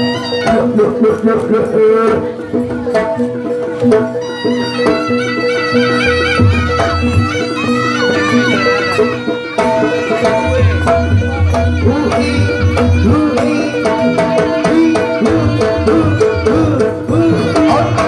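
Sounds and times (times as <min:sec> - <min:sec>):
hand drum pattern: 0:00.0 - 0:18.0.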